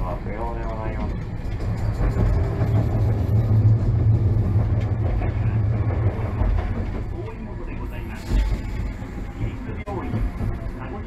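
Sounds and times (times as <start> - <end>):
streetcar wheels rumbling: 0.0 - 11.0.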